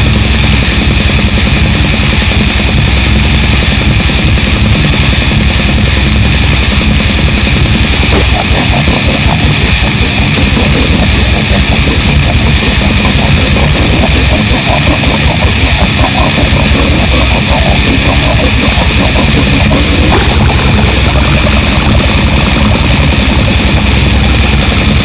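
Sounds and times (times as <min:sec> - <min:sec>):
distorted heavy metal music: 0:00.0 - 0:25.0.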